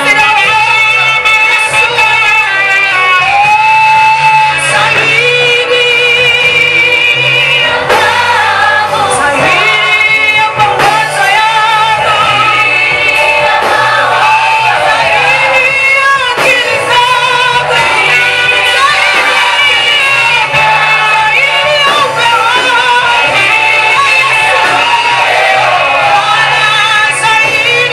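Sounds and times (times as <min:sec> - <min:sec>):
vocal group singing worship song: 0:00.0 - 0:27.9.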